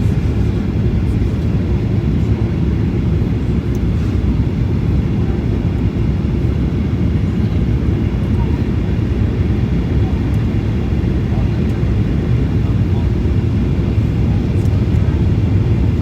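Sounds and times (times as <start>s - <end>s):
jet engine and airflow roar: 0.0s - 16.0s.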